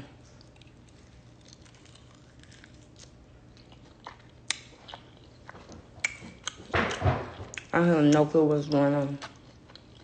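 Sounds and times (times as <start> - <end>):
person chewing: 0.0 - 8.2, 9.2 - 10.0.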